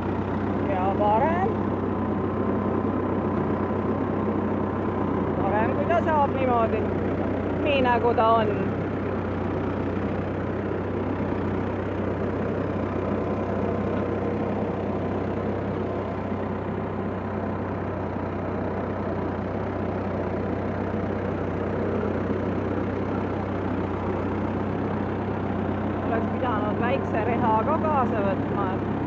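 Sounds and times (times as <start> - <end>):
tractor engine humming: 0.0 - 29.0.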